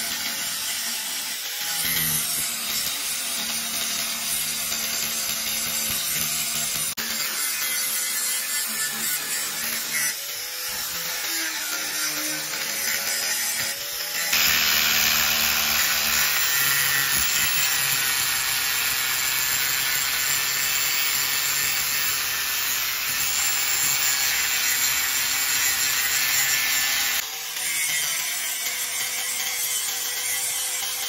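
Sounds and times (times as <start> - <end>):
angle grinder cutting steel: 0.0 - 31.0.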